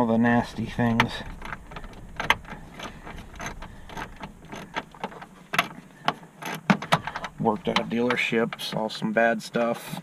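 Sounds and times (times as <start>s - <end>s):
hand tools clicking and knocking: 0.6s - 8.9s.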